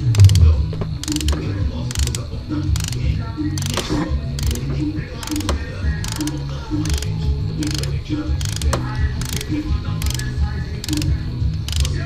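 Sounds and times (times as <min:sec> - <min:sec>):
background music with clicking beat: 0:00.0 - 0:12.0
ratchet wrench clicking: 0:00.0 - 0:12.0.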